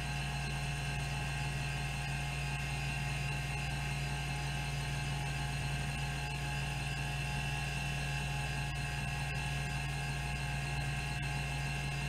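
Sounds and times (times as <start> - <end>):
hard disk spinning hum: 0.0 - 12.0.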